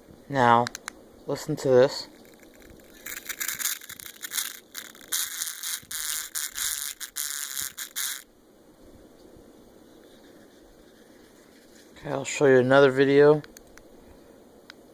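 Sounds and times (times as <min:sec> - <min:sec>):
crackling static from speaker: 0:00.0 - 0:14.9.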